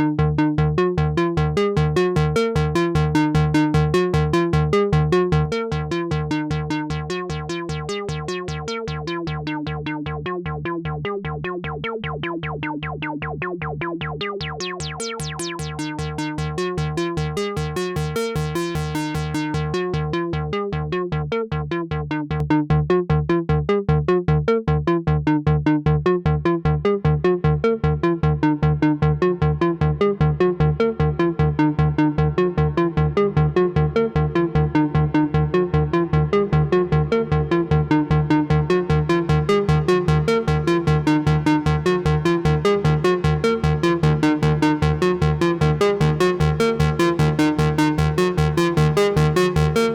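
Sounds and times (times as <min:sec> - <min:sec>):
steady synth bass note: 0:00.0 - 0:49.9
synthesizer sequenced note pattern: 0:00.0 - 0:49.9.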